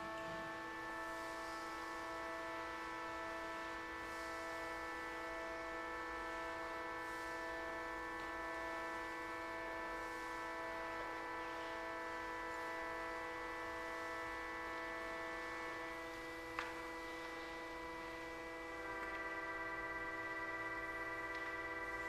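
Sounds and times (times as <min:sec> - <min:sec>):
steady musical drone chord: 0:00.0 - 0:22.0.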